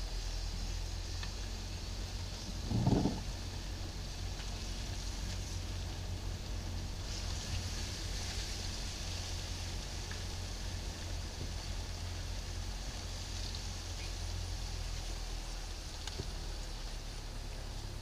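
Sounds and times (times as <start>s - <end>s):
car engine and road noise: 0.0s - 18.0s
tyre hiss on wet road: 0.0s - 18.0s.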